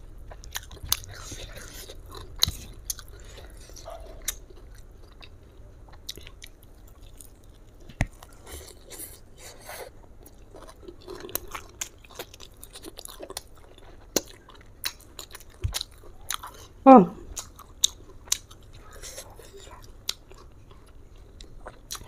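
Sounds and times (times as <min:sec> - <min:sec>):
crunchy chewing: 0:00.2 - 0:22.0.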